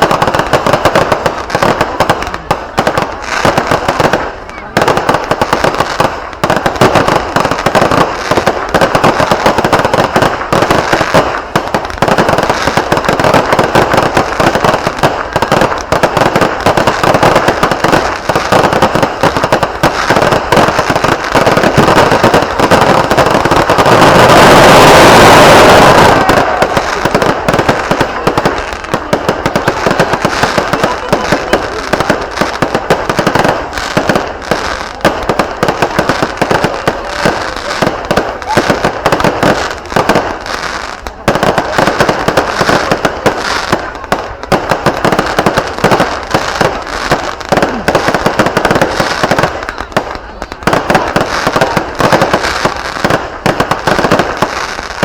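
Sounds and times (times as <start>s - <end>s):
fireworks crackling bangs: 0.0s - 55.0s.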